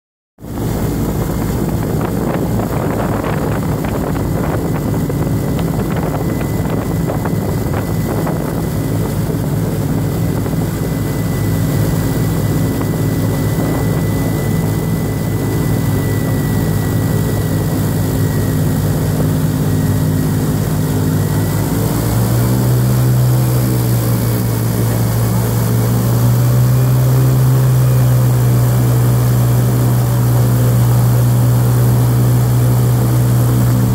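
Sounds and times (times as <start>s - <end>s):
airboat engine and propeller: 0.4s - 33.9s.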